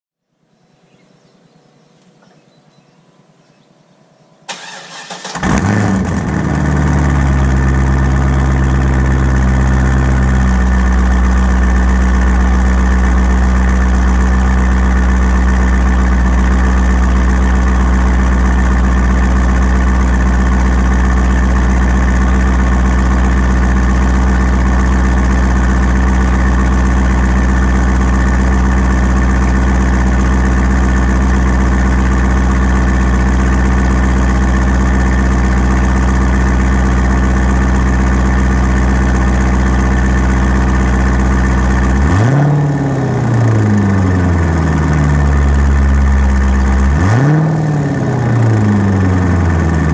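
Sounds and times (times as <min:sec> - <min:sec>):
car engine starting and idling: 0:04.4 - 0:49.9.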